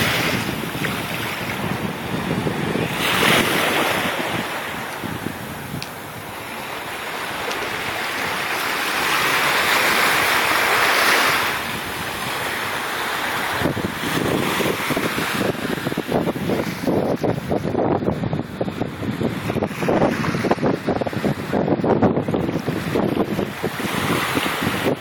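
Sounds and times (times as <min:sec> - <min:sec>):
small waves washing on sand: 0:00.0 - 0:25.0
wind buffeting microphone: 0:00.0 - 0:25.0.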